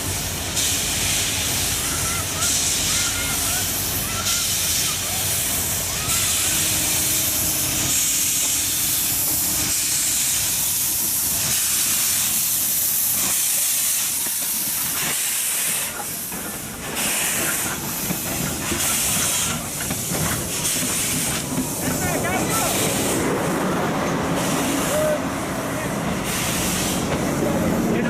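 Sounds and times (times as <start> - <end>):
train rushing hiss: 0.0 - 28.0.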